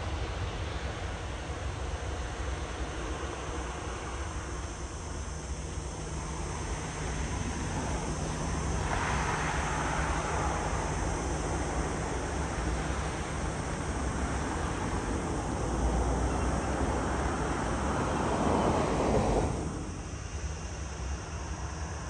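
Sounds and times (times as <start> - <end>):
jet airliner engine rumble: 0.0 - 22.0.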